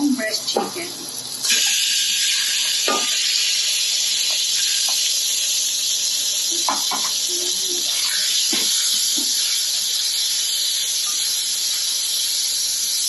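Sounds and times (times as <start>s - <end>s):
chicken sizzling in a wok: 0.0s - 13.0s.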